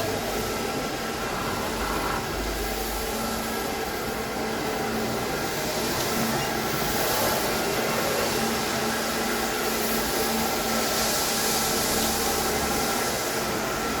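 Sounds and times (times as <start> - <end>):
floor-cleaning machine running: 0.0 - 14.0.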